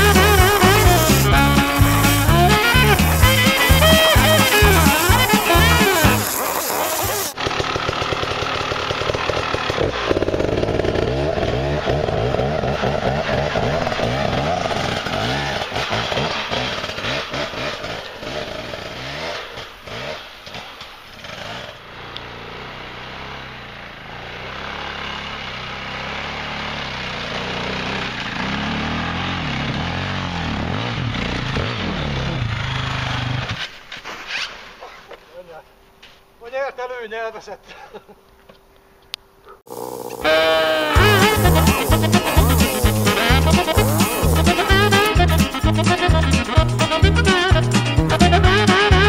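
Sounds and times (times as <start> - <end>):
dirt bike engines revving: 0.0 - 33.6, 39.7 - 49.0.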